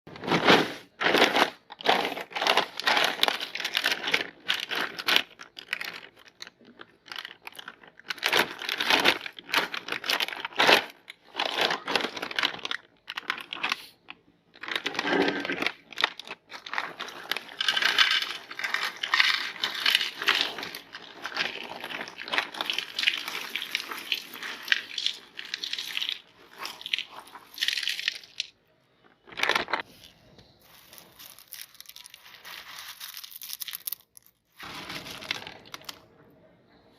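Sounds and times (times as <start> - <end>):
plastic packaging crinkling and tearing: 0.1 - 28.6, 29.2 - 30.0, 30.6 - 36.0.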